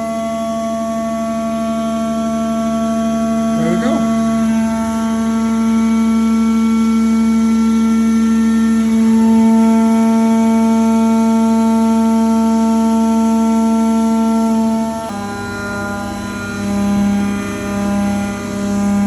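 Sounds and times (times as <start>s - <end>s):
milling machine whine: 0.0s - 19.0s.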